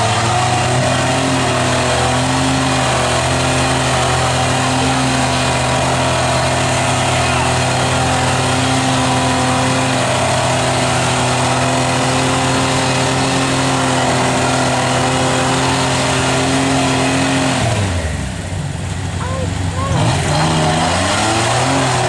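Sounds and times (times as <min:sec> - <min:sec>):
engine at high revs under load: 0:00.0 - 0:18.5, 0:19.5 - 0:22.0.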